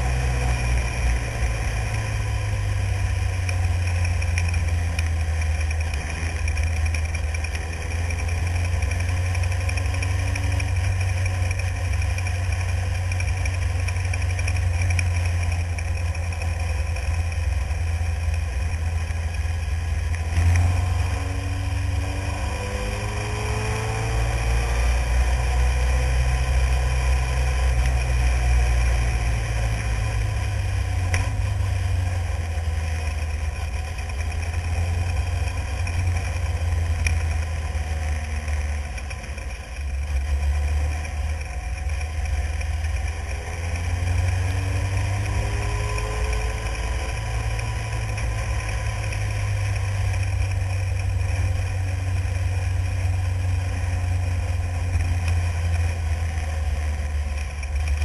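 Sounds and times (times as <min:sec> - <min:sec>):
racing car engine rumble: 0:00.0 - 0:58.0.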